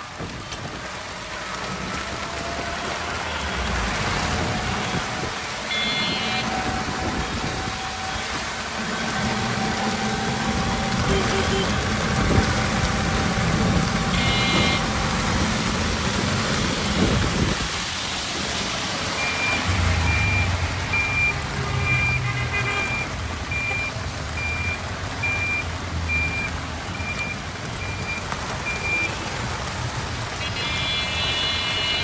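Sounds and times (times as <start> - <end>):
rain and tyres hissing: 0.0 - 32.0
vehicle engines rumbling: 0.0 - 32.0.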